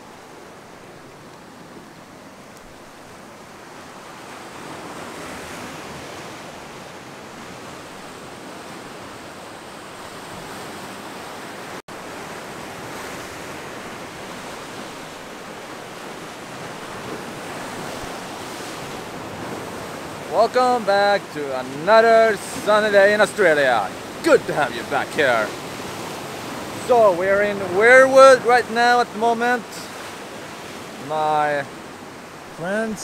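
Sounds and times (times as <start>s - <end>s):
ocean waves breaking on rocks: 0.0s - 33.0s.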